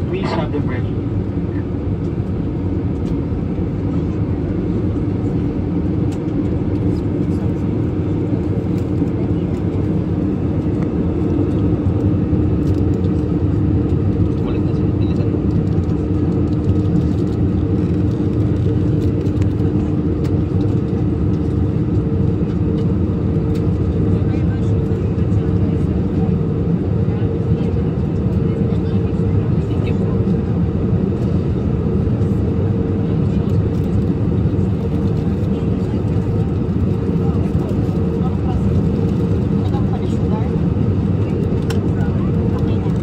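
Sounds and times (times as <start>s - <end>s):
airliner cabin drone: 0.0s - 43.0s.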